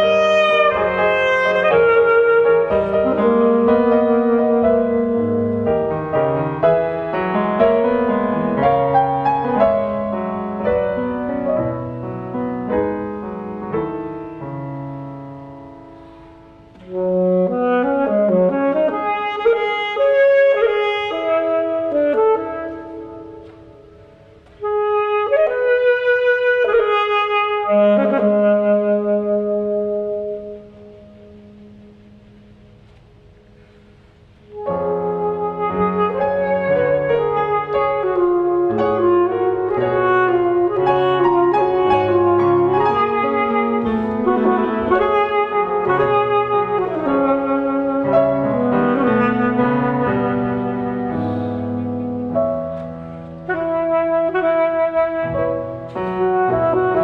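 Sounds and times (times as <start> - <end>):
alto saxophone melody: 0.0 - 57.0
grand piano chords: 0.0 - 57.0.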